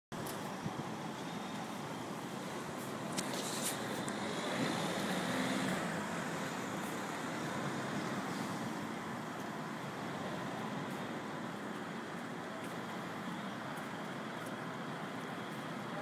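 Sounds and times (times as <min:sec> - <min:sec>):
traffic and engine rumble: 0:00.1 - 0:16.0.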